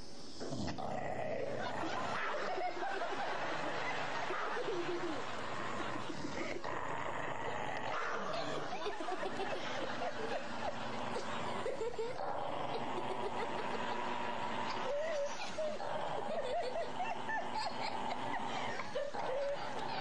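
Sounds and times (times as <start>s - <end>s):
dog growling and snarling: 0.4s - 20.0s
people laughing: 1.3s - 20.0s.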